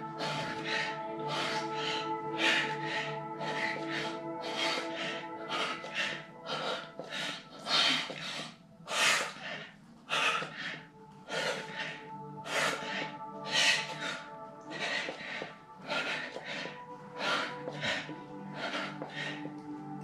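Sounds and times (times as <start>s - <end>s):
background music: 0.0s - 20.0s
man breathing heavily: 0.0s - 20.0s.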